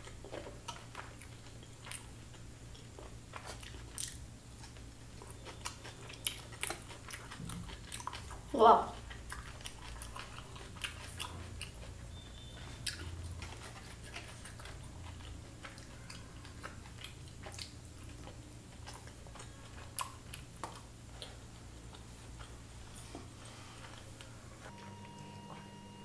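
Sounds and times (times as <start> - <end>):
person chewing food: 0.0 - 25.9.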